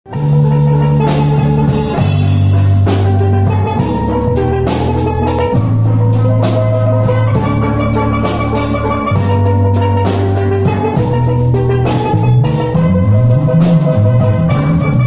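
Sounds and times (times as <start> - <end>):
bass guitar: 0.1 - 15.0
drum kit beat: 0.1 - 15.0
steel pans playing melody: 0.1 - 15.0.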